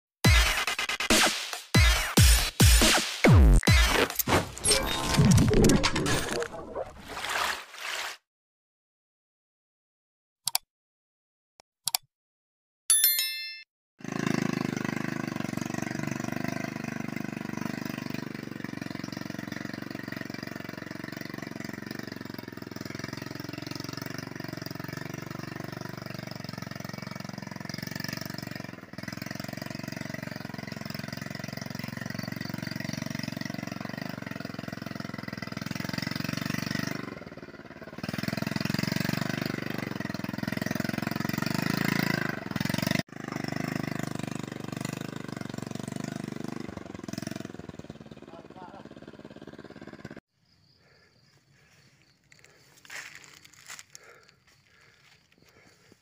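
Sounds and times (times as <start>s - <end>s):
motorcycle engine climbing: 3.3s - 8.2s, 14.0s - 56.0s.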